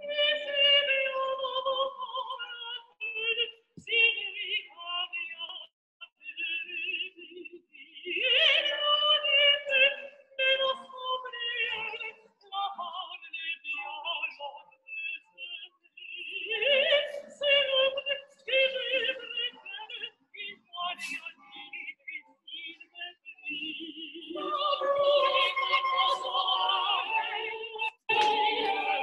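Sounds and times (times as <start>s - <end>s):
woman singing operatically: 0.0s - 29.0s.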